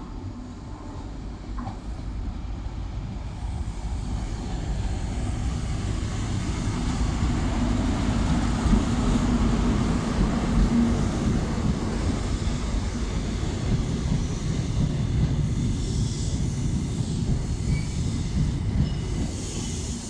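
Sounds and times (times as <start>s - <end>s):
diesel train engine: 0.0s - 20.0s
train wheels on rails: 0.0s - 20.0s.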